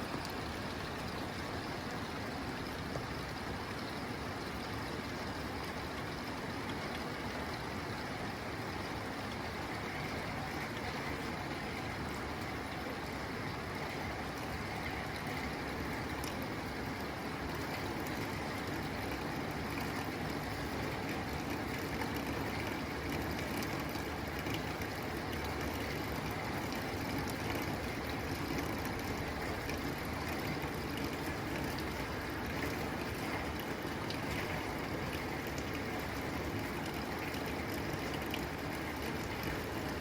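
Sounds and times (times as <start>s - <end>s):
rain on a tin roof: 0.0s - 40.0s.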